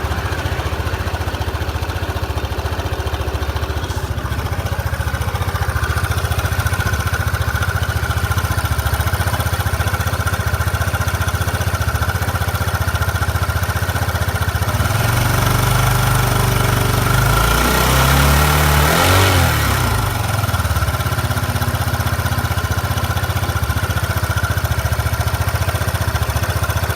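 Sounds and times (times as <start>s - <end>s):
vehicle engine idling and revving: 0.0s - 26.9s.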